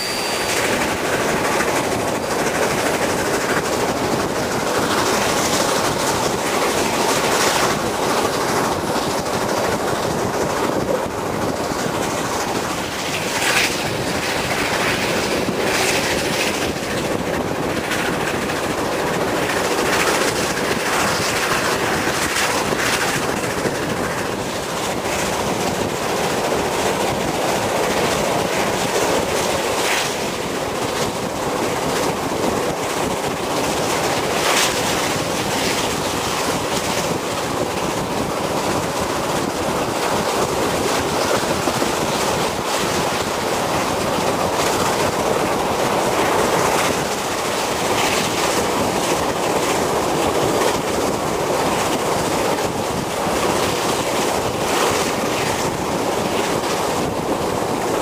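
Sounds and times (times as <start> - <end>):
train wheels rushing on rails: 0.0 - 58.0.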